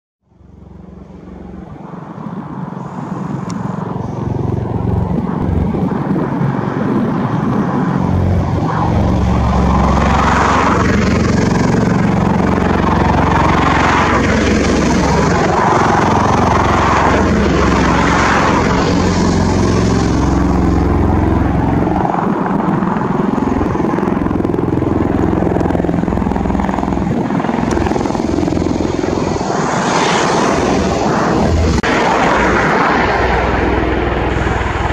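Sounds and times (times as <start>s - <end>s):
tiltrotor aircraft rumble: 0.2s - 34.9s.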